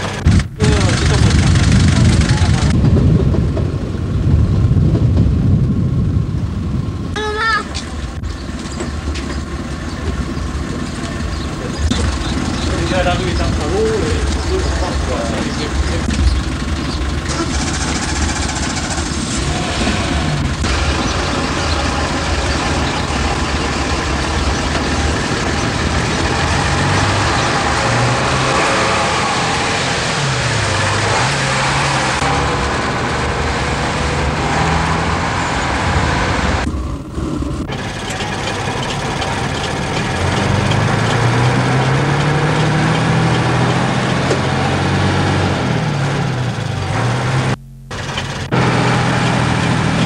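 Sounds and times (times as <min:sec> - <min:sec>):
minibus engine running: 0:00.0 - 0:50.0
road noise: 0:00.0 - 0:50.0.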